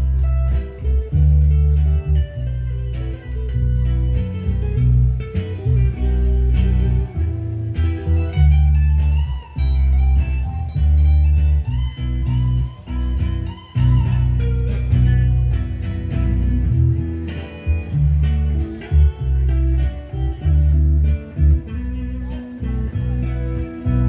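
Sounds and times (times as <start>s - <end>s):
deep bass notes: 0.0s - 24.0s
electric guitar lead: 0.0s - 24.0s.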